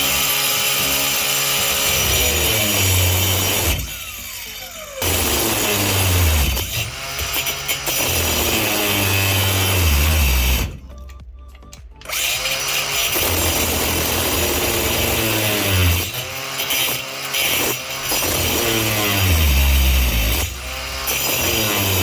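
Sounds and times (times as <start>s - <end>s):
power cutting tool motor: 0.0s - 10.8s, 12.0s - 22.0s.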